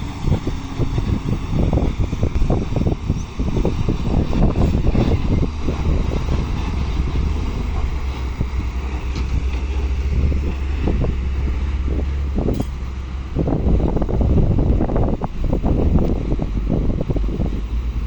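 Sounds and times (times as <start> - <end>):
diesel engine humming: 0.0 - 18.0
wind buffeting microphone: 0.0 - 18.0.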